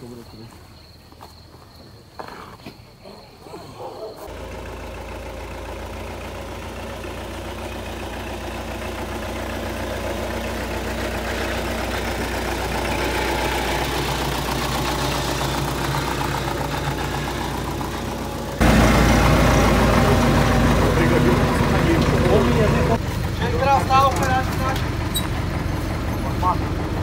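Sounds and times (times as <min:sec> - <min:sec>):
engine running: 0:04.3 - 0:27.0.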